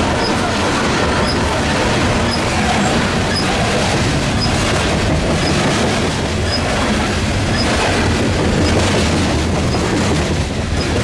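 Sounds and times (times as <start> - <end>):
train wheels clattering on rail: 0.0 - 11.0.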